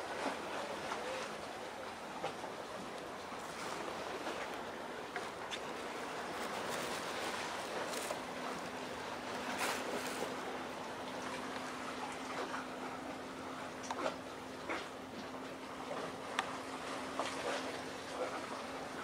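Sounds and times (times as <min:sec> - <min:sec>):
faint steady hum: 0:00.0 - 0:19.0
harbour water wash: 0:00.0 - 0:19.0.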